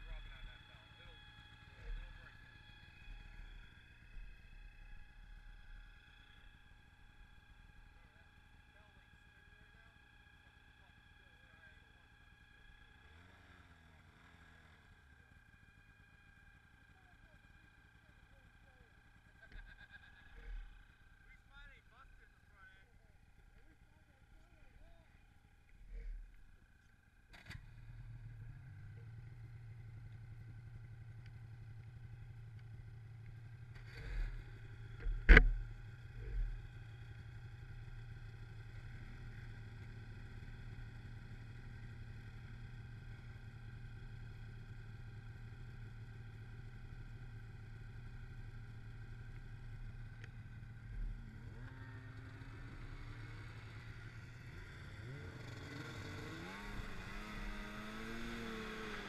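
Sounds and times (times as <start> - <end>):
snowmobile engine: 0.0 - 11.8, 12.5 - 59.0.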